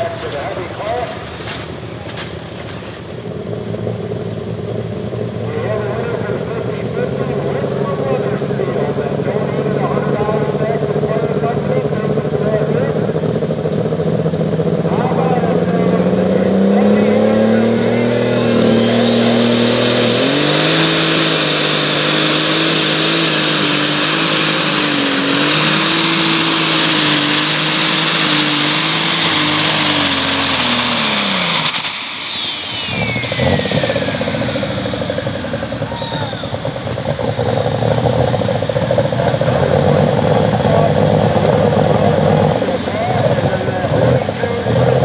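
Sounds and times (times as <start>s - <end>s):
high turbo whine: 0.0s - 45.0s
tractor engine at full throttle: 0.0s - 45.0s.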